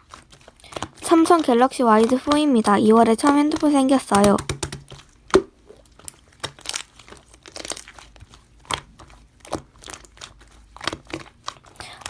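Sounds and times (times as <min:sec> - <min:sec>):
slime crackling and popping: 0:00.0 - 0:12.0.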